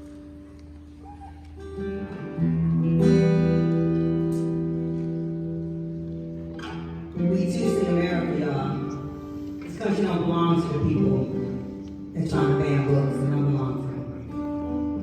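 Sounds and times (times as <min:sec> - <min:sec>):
guitar plucked and strummed: 0:00.0 - 0:15.0.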